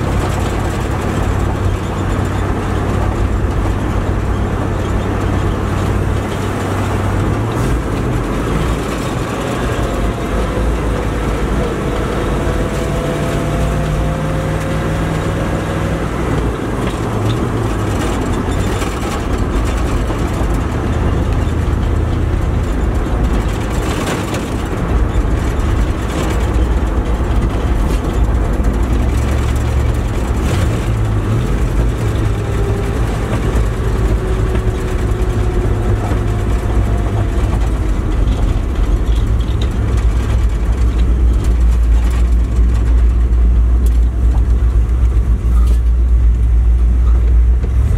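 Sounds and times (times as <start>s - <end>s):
pickup engine running: 0.0s - 47.9s
road noise: 0.0s - 47.9s.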